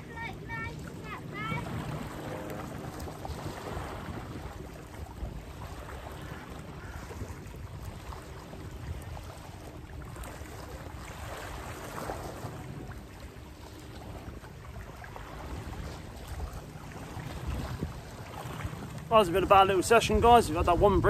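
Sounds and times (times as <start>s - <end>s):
small waves lapping against rocks: 0.0s - 21.0s
wind rumble on microphone: 0.0s - 21.0s.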